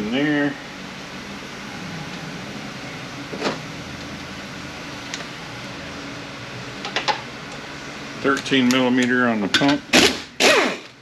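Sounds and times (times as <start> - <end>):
fan-like background noise: 0.0 - 11.0.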